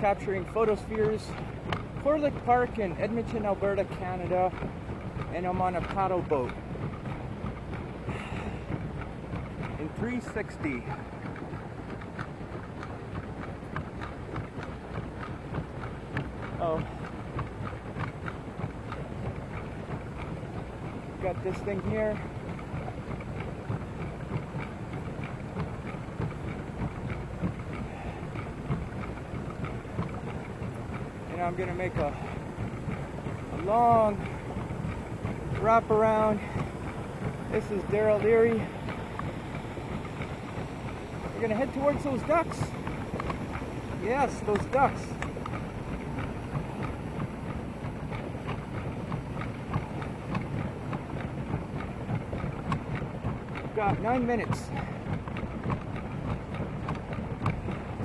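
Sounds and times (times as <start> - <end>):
paddle wheel churning water: 0.0 - 58.0.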